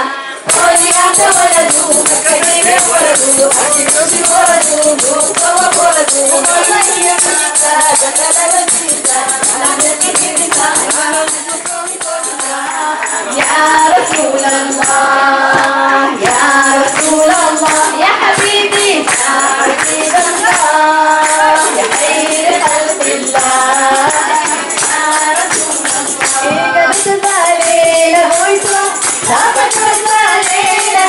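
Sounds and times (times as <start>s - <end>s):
voices singing along: 0.0s - 31.0s
woman singing into microphone: 0.0s - 31.0s
shaken percussion beat: 0.4s - 31.0s.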